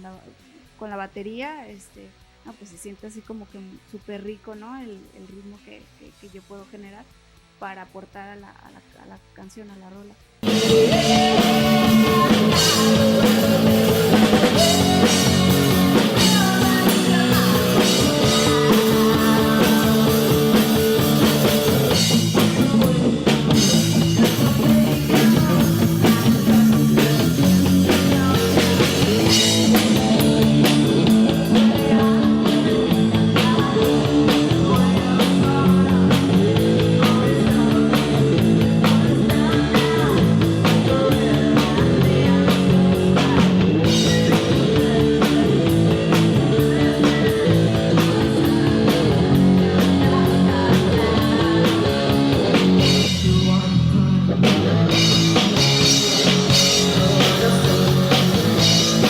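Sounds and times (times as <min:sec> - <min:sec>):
rock band playing: 0:10.4 - 0:59.0.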